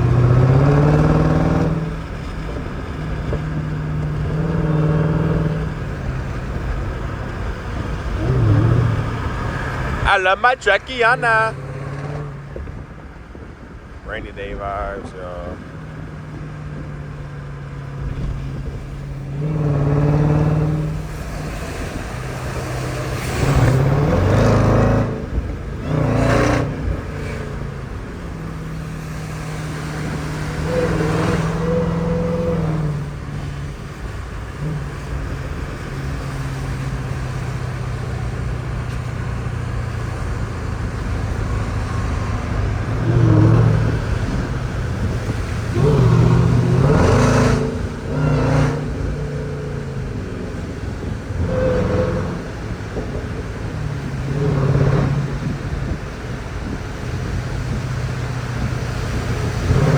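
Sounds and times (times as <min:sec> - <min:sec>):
car engine revving on the move: 0:00.0 - 0:59.9.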